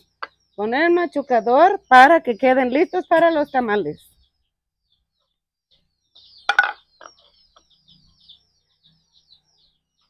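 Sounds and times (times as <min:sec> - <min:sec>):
small birds twittering: 0:00.0 - 0:10.0.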